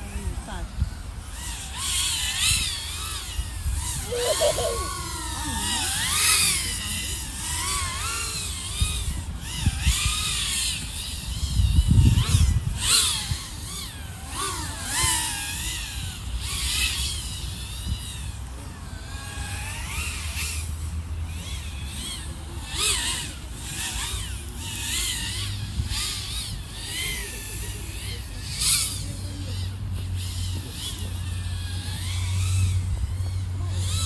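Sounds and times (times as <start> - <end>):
drone motors and propellers whining: 0.0 - 34.0.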